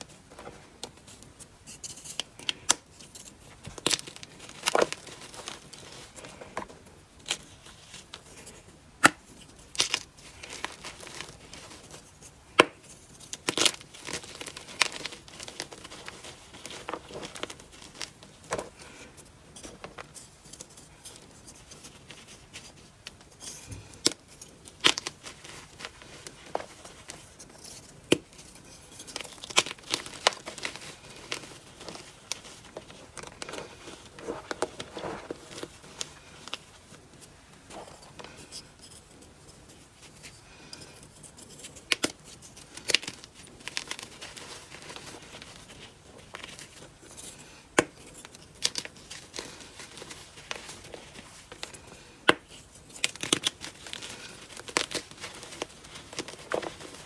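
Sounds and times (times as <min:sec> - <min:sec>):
chalk crumbling rustle: 0:00.0 - 0:57.0.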